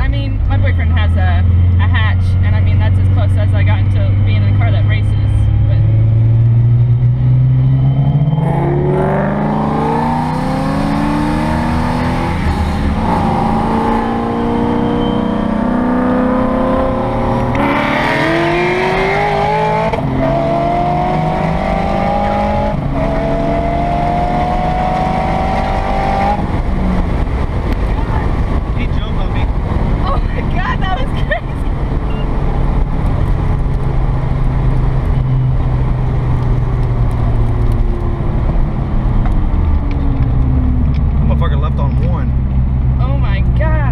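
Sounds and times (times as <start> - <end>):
car engine at full throttle: 0.0 - 43.9.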